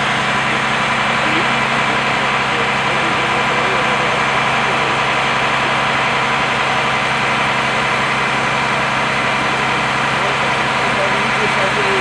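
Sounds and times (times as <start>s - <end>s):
fire truck engine idling: 0.0s - 12.0s.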